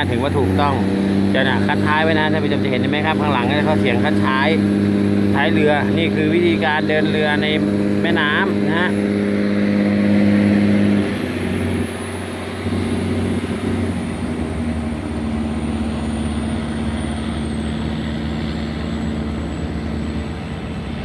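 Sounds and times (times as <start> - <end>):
boat diesel engines droning: 0.0 - 21.0.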